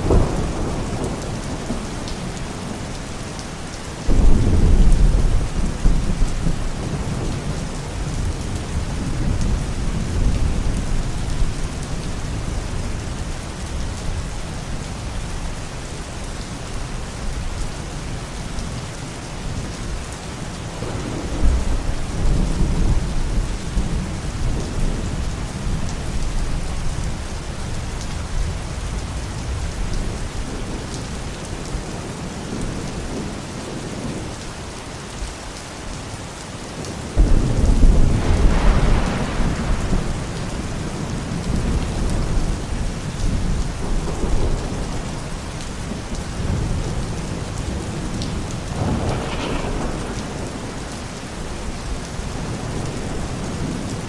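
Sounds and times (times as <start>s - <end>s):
thunder rumbling: 0.0s - 3.4s, 4.0s - 15.2s, 20.7s - 34.4s, 36.8s - 54.0s
steady rain: 0.0s - 54.0s.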